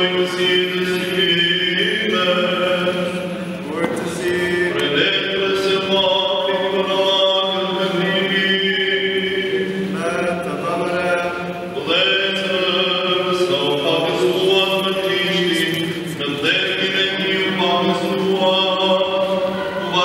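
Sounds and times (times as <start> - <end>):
low drone: 0.0 - 20.0
men chanting: 0.0 - 20.0.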